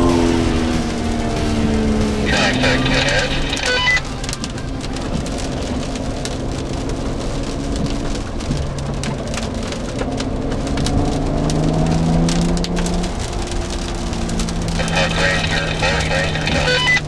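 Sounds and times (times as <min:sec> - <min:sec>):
car engine humming: 0:00.0 - 0:17.0
raindrops ticking on windshield: 0:00.0 - 0:17.0.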